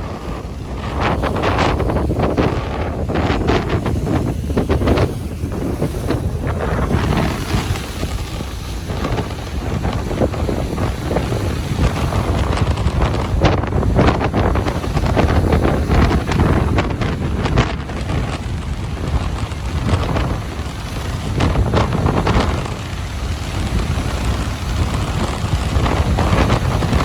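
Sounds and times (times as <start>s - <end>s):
ocean surf on a beach: 0.0s - 27.0s
wind buffeting microphone: 0.0s - 27.0s.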